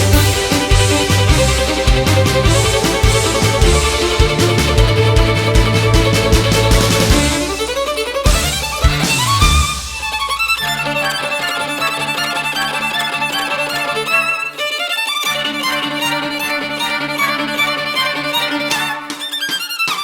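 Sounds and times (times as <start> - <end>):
violin music: 0.0 - 20.0.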